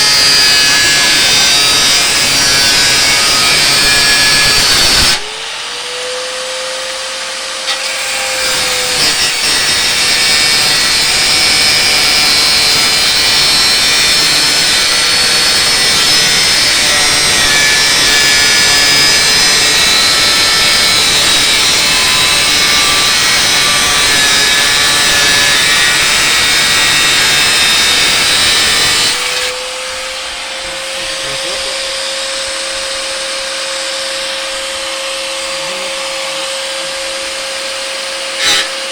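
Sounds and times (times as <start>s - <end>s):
angle grinder motor whine: 0.0s - 38.9s.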